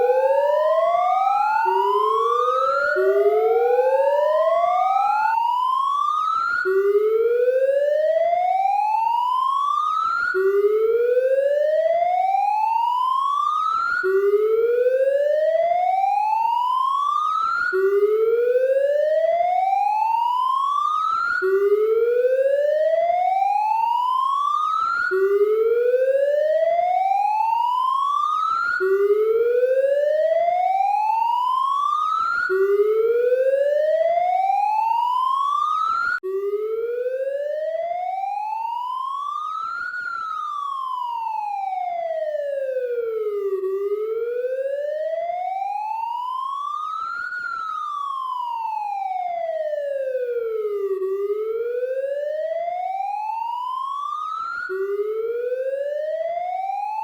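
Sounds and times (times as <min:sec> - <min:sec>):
police siren wailing: 0:00.0 - 0:57.0.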